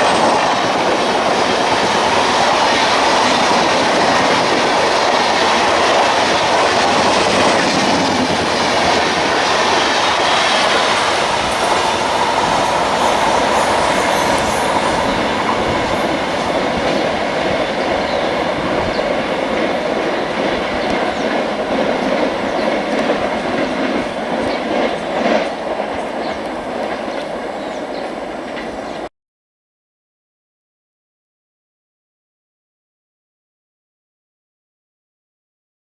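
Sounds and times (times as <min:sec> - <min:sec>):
train passing at speed: 0:00.0 - 0:29.1.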